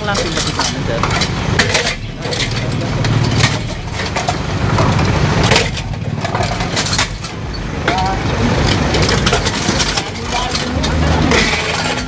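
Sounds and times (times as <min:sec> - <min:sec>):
background voices: 0:00.0 - 0:12.0
sharp knocks and clatter: 0:00.0 - 0:12.0
vehicle engine rumbling: 0:00.0 - 0:12.0.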